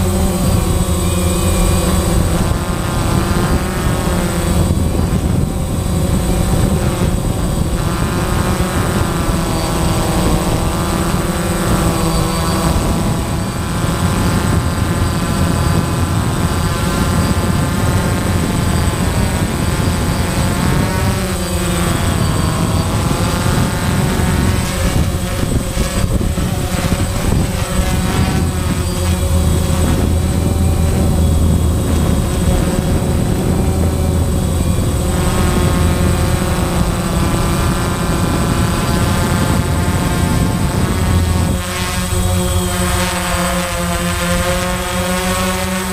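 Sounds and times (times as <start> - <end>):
drone propellers whining: 0.0 - 45.9.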